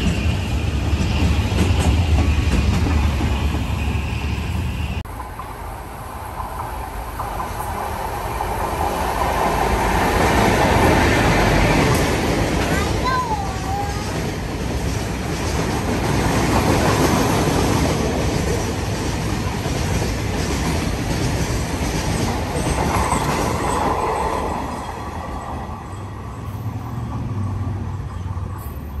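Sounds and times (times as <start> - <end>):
distant train low hum: 0.0 - 29.0
freight train wheels on rails: 0.0 - 29.0.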